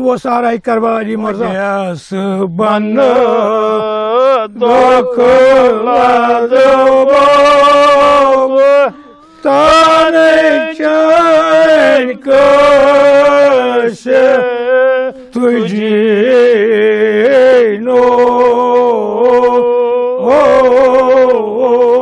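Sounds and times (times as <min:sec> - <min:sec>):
man chanting unaccompanied: 0:00.0 - 0:22.0.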